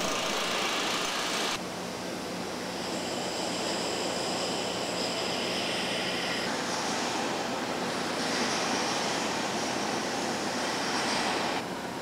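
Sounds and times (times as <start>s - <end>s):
high motor whine: 0.0s - 1.6s, 2.3s - 10.8s
machinery noise with low hum: 0.0s - 12.0s.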